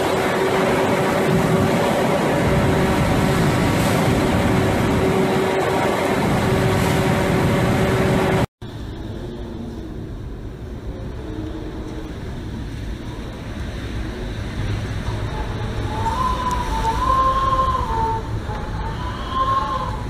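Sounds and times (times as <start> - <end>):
rain: 0.0 - 20.0
strong wind: 0.0 - 20.0.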